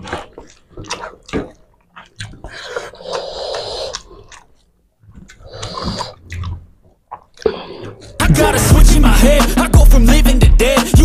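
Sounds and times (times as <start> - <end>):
chewing and mouth noises: 0.0 - 10.8.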